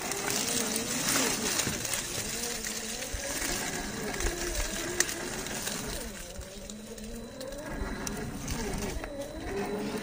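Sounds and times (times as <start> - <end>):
toy car motor whining: 0.0 - 10.0.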